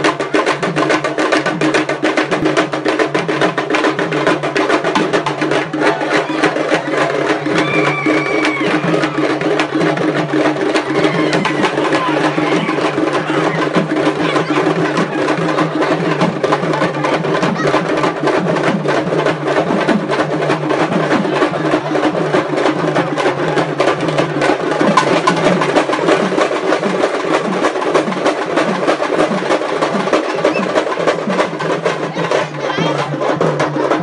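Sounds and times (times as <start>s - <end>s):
drums beaten hard: 0.0s - 34.0s.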